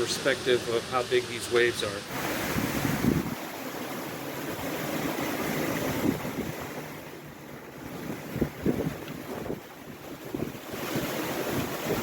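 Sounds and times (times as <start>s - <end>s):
ocean waves breaking: 0.0s - 12.0s
strong wind: 2.1s - 12.0s
wind buffeting microphone: 2.1s - 12.0s.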